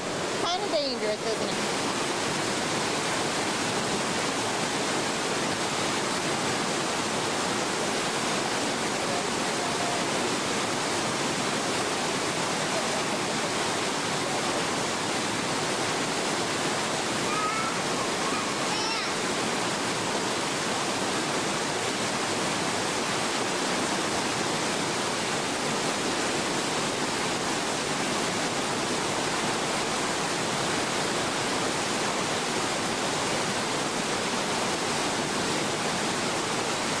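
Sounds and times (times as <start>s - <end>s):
mountain stream rushing over boulders: 0.0s - 37.0s.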